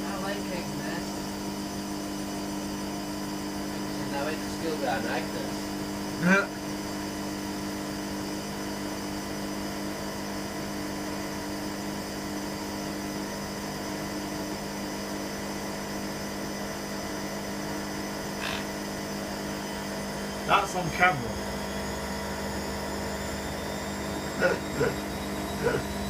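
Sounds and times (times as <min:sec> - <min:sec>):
washer dryer motor hum: 0:00.0 - 0:26.0.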